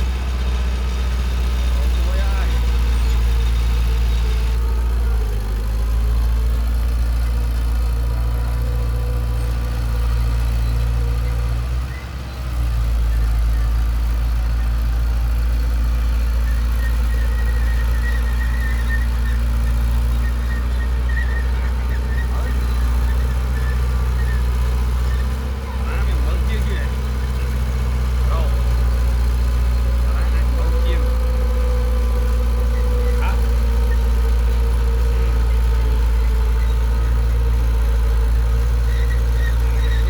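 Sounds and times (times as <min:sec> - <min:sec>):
heavy diesel engine rumbling: 0:00.0 - 0:40.0.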